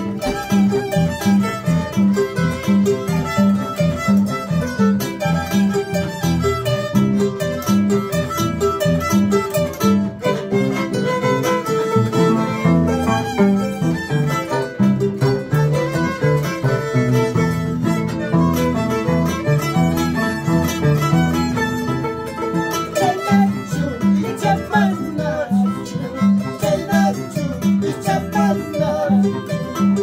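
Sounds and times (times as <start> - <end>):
bowed violin melody: 0.0 - 30.0
harp plucking: 0.0 - 30.0.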